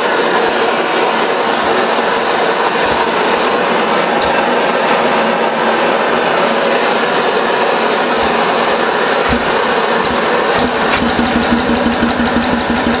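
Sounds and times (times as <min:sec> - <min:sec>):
engine mechanical clatter: 0:00.0 - 0:13.0.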